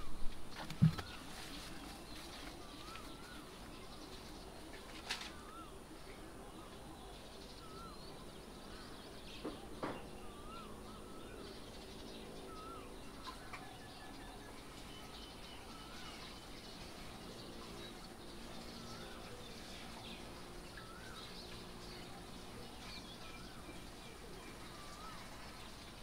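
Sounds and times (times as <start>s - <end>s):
birds chirping softly: 0.0s - 26.0s.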